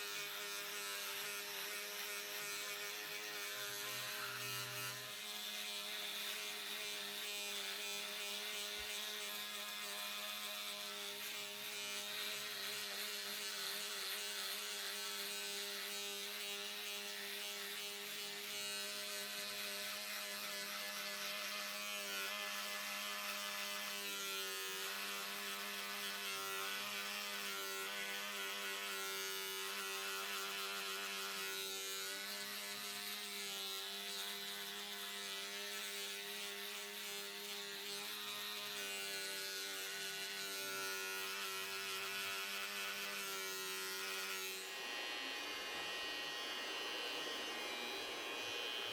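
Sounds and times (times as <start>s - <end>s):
electric hair clippers buzzing: 0.0s - 48.9s.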